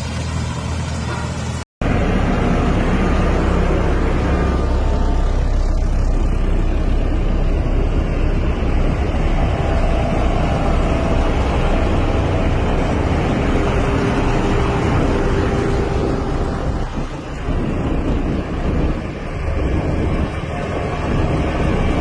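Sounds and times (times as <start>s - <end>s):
heavy machine engine rumbling: 0.0s - 22.0s.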